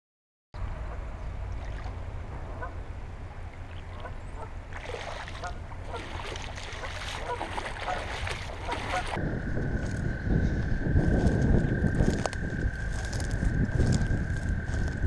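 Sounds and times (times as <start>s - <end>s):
wind rumble on microphone: 0.6s - 15.0s.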